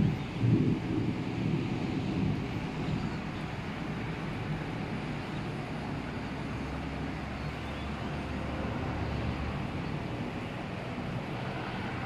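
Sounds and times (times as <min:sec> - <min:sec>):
rain hiss: 0:00.0 - 0:12.0
wind rumble: 0:00.0 - 0:12.0.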